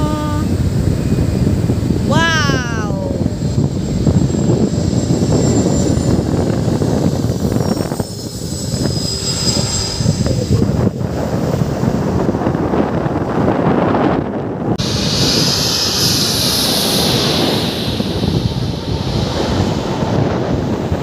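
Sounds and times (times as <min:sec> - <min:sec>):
airliner engines rumbling: 0:00.0 - 0:21.0
jet engine high whine: 0:00.0 - 0:21.0.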